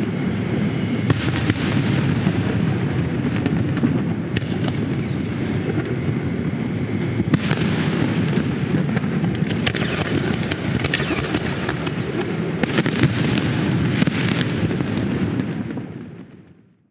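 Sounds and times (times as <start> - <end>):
fireworks bursts and crackling: 0.0 - 16.5.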